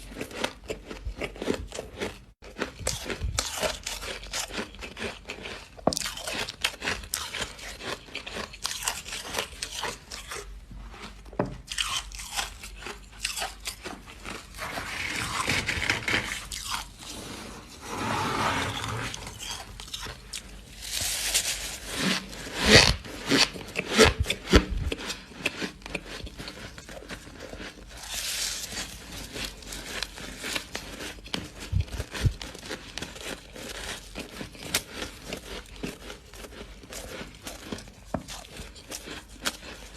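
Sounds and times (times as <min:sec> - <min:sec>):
crunchy chewing of frost: 0:00.0 - 0:39.9.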